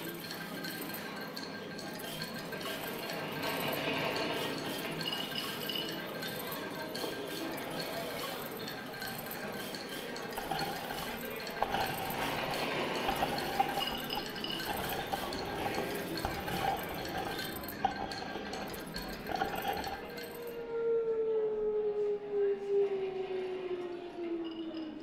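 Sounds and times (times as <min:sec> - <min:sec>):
glassy clinks and clicks: 0:00.0 - 0:20.5
faint steady high tones: 0:00.0 - 0:25.0.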